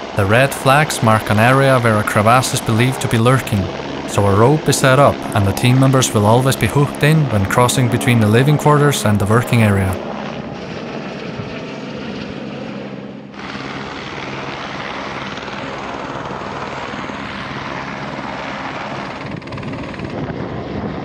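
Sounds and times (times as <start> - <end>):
helicopter flying close by: 0.0 - 21.0.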